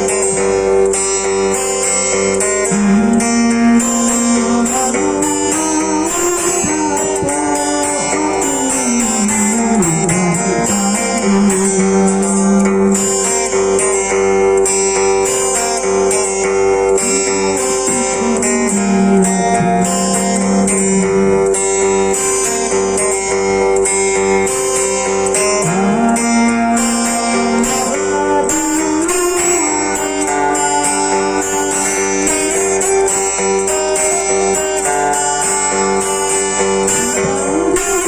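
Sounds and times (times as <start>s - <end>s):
acoustic guitar strummed and plucked: 0.0s - 38.0s
long held notes: 0.0s - 38.0s.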